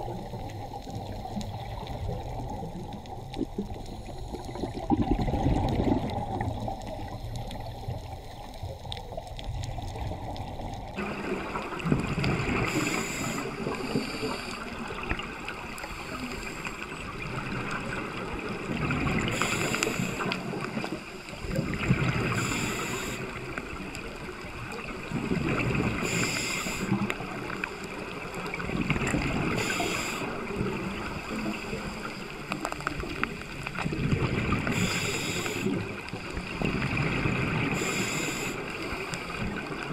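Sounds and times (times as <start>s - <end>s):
underwater water wash: 0.0s - 39.9s.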